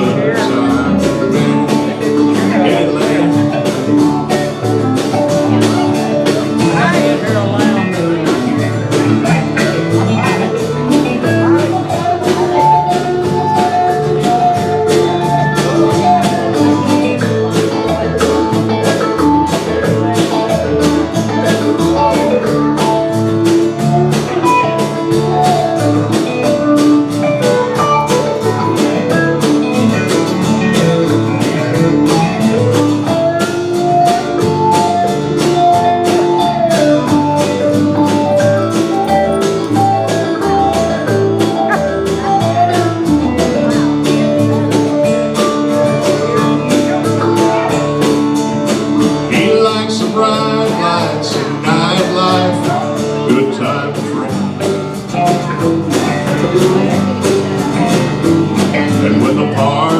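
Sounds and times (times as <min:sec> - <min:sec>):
live band playing: 0:00.0 - 0:59.9.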